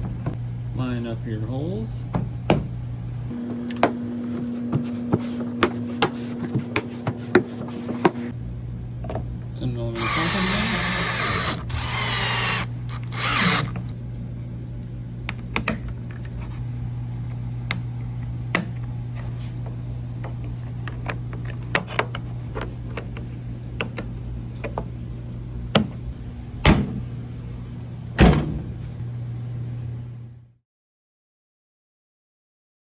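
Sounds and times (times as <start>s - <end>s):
steady low hum: 0.0s - 30.6s.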